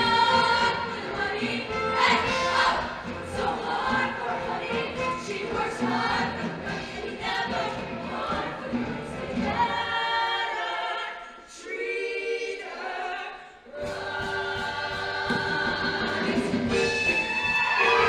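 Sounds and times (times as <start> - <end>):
choir singing chords: 0.0 - 18.0.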